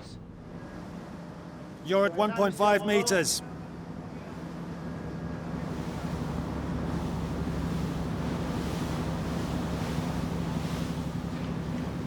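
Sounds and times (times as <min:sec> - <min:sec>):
ship engine droning: 0:00.0 - 0:12.0
water noise: 0:00.0 - 0:12.0
wind: 0:00.0 - 0:12.0.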